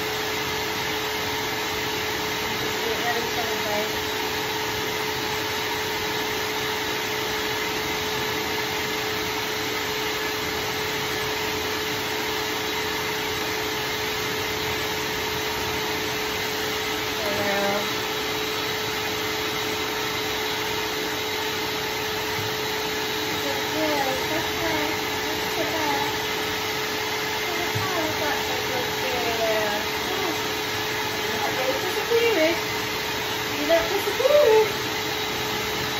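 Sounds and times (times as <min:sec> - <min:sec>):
pet grooming dryer blowing: 0:00.0 - 0:35.9.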